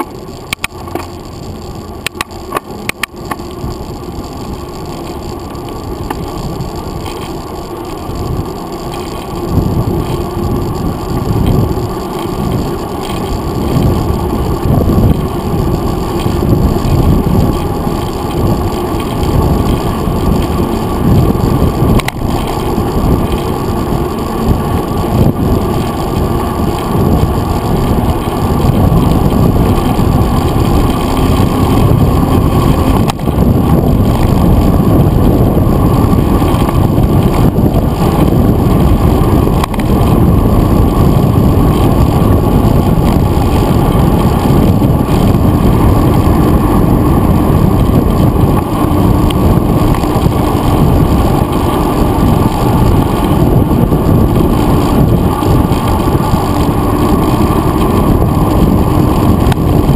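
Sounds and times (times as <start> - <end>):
bike tyre rumble on asphalt: 0.0 - 59.9
wind buffeting: 0.0 - 59.9.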